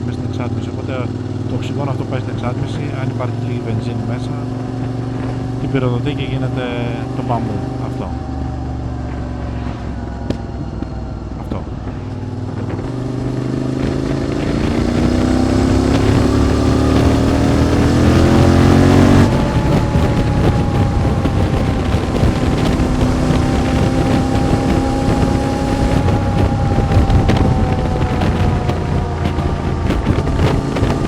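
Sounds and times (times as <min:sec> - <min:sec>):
motorcycle engine accelerating: 0:00.0 - 0:31.0
wind rushing over microphone: 0:00.0 - 0:31.0.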